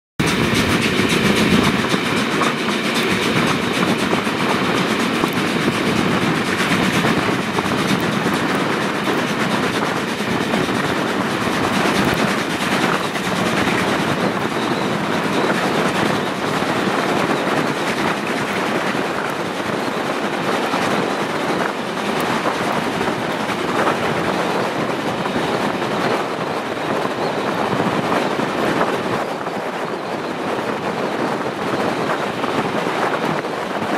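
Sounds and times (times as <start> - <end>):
clickety-clack of wheels on rails: 0.2 - 33.9
train running noise and wind: 0.2 - 33.9.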